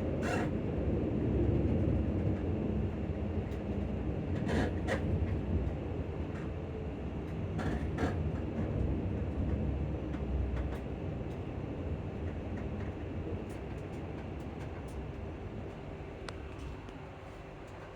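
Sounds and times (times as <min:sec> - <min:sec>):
train interior rumble: 0:00.0 - 0:17.9.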